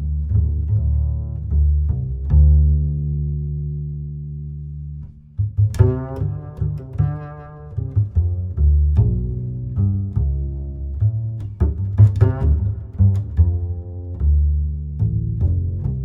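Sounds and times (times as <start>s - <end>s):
music with deep bass notes: 0.0s - 16.0s.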